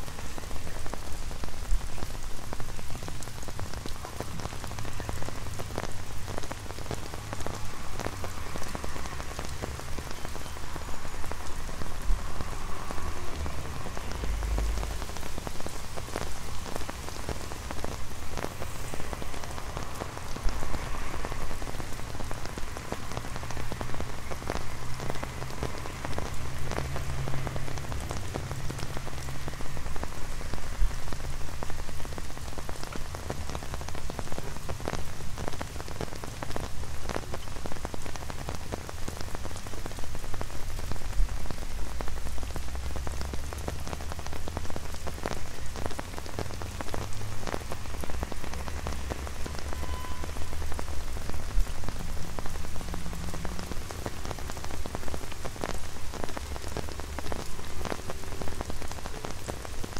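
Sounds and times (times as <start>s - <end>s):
rain on umbrella: 0.0s - 59.9s
road traffic rumble: 0.0s - 59.9s.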